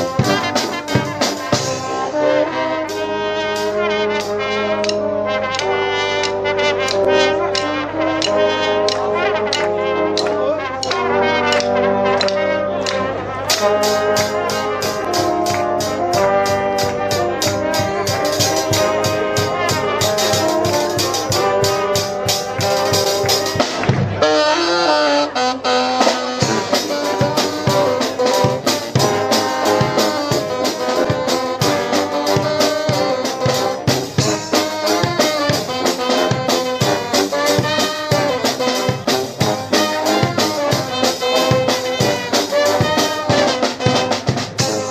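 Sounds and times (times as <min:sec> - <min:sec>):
fast steady drum beat: 0:00.0 - 0:12.4, 0:13.5 - 0:24.3, 0:26.0 - 0:44.9
trombones and trumpets: 0:00.0 - 0:44.9.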